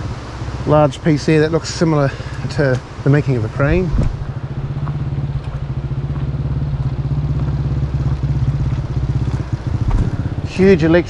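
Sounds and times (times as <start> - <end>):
dirt bike engine puttering: 1.6 - 11.0.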